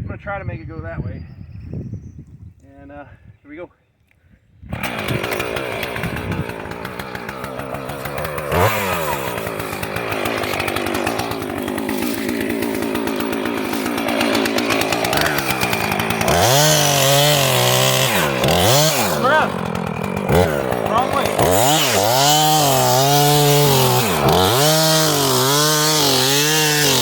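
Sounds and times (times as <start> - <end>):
chainsaw cutting wood: 4.7 - 27.0.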